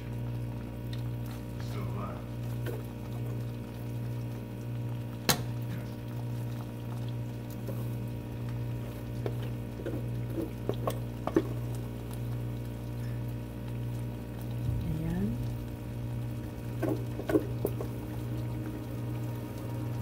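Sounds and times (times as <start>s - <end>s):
oil popping and crackling: 0.0s - 20.0s
rice bubbling in hot oil: 0.0s - 20.0s
steady low hum: 0.0s - 20.0s.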